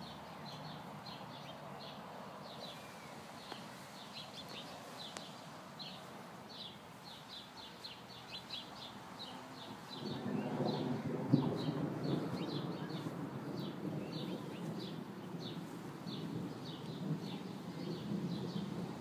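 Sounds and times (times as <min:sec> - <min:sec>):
small birds chirping: 0:00.0 - 0:18.9
faint outdoor background noise: 0:00.0 - 0:19.0.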